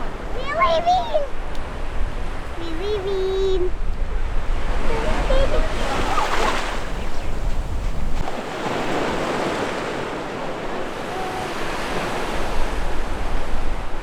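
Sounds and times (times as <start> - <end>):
ocean surf washing onto beach: 0.0 - 14.0
wind buffeting microphone: 0.0 - 14.0.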